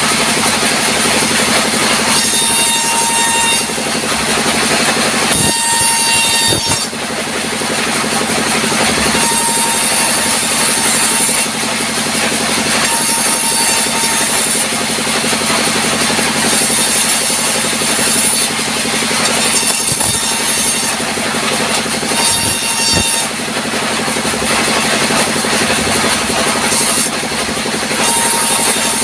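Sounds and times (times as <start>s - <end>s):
high-pitched whine of saw cutting: 0.0s - 23.4s, 24.2s - 29.0s
band saw running: 0.0s - 29.0s.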